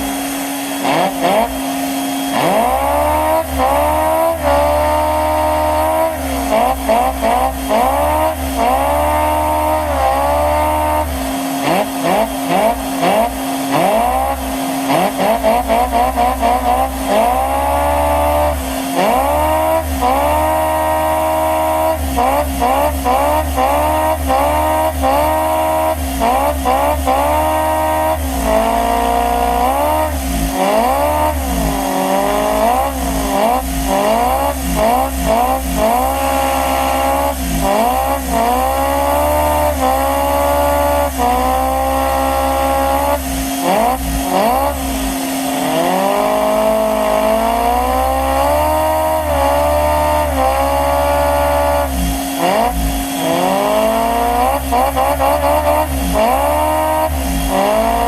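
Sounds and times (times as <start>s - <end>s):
toy vacuum engine revving: 0.0s - 58.0s.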